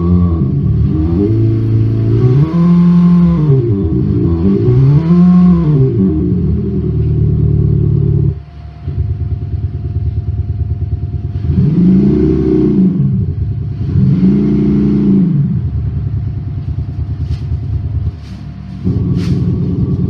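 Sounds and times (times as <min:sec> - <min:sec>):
synthetic engine sound revving: 0:00.0 - 0:20.0.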